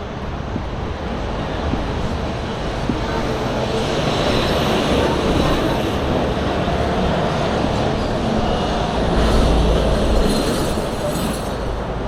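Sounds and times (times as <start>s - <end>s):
city street traffic: 0.0s - 12.0s
deep traffic rumble: 0.0s - 12.0s.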